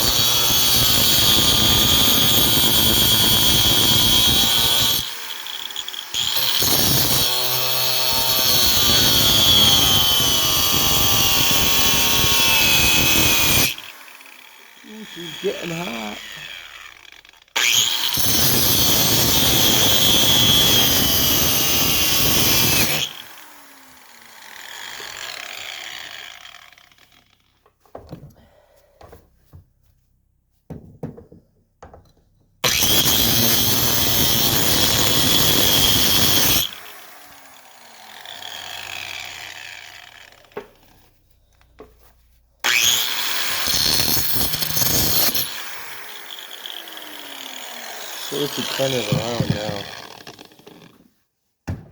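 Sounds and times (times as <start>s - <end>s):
power tool cutting metal pipe: 0.0s - 27.5s, 32.6s - 41.2s, 42.6s - 51.1s.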